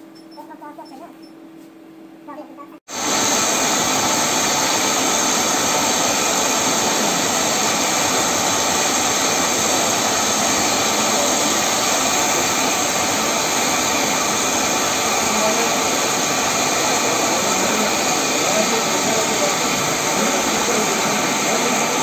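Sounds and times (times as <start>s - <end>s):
foam cutting machine running: 2.9s - 22.0s.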